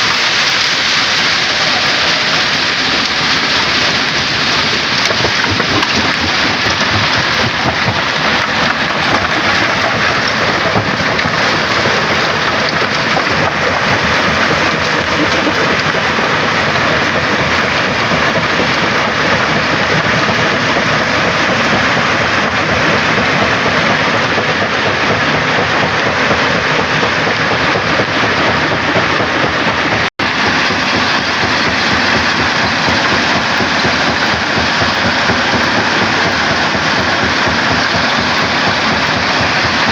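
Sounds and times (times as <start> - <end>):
rock crusher clattering: 0.0 - 39.9.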